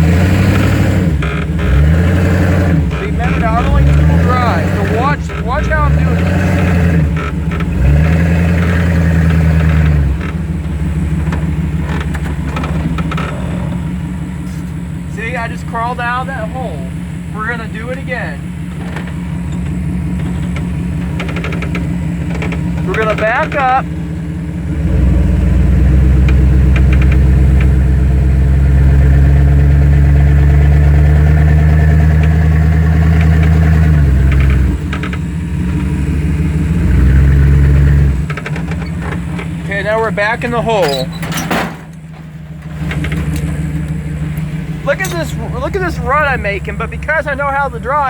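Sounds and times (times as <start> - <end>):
pickup truck engine under throttle: 0.0 - 48.0.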